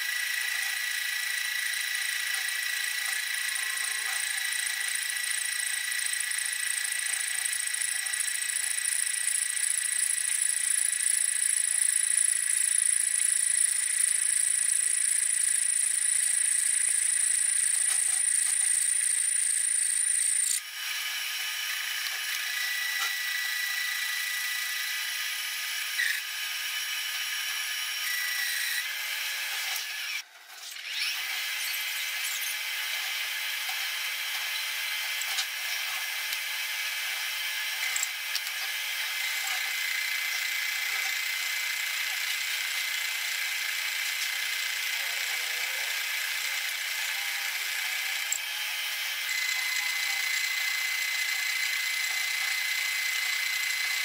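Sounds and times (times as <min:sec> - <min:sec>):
metal lathe cutting steel: 0:00.0 - 0:54.0.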